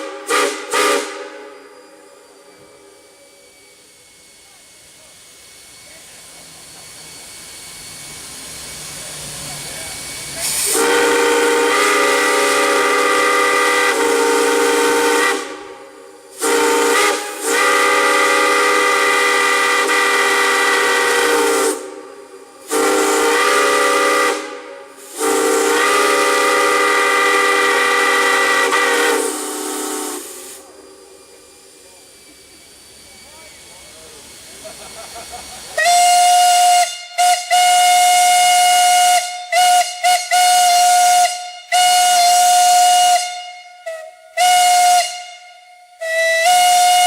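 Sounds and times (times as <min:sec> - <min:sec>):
steam whistle blasts: 0:00.0 - 0:06.4, 0:07.0 - 0:34.1, 0:35.7 - 0:47.0
steam hissing: 0:00.0 - 0:47.0.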